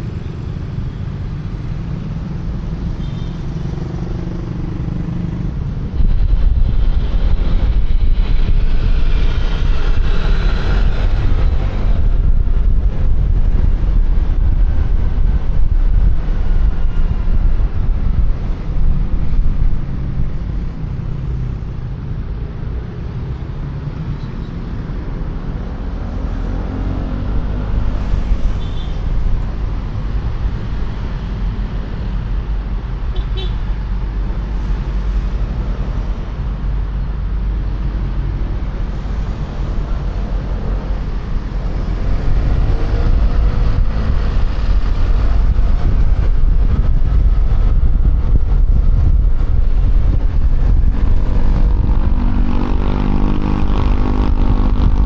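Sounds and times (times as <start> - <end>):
road traffic: 0.0 - 55.0
wind rushing over microphone: 3.6 - 55.0.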